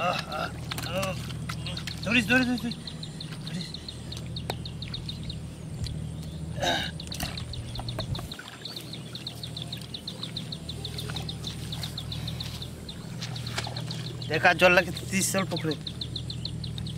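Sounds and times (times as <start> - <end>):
low steady rumble: 0.0 - 16.9
bird chirping rapidly: 1.6 - 16.9.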